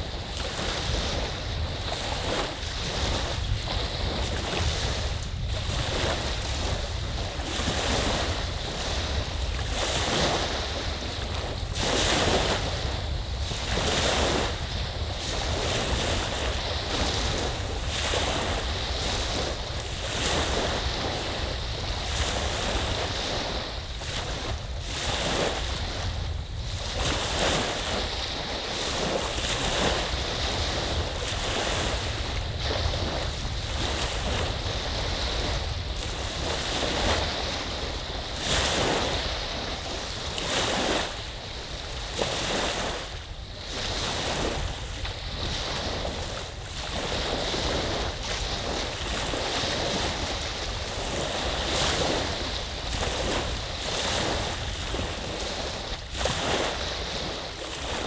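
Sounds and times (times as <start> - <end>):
waves washing on sandy beach: 0.0 - 58.0
wind rumble on microphone: 0.0 - 58.0.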